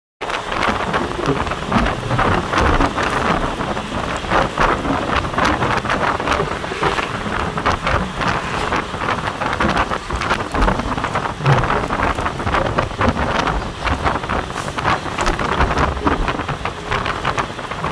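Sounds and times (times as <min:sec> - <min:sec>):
vehicle road noise: 0:00.2 - 0:17.9
wind buffeting microphone: 0:00.2 - 0:17.9.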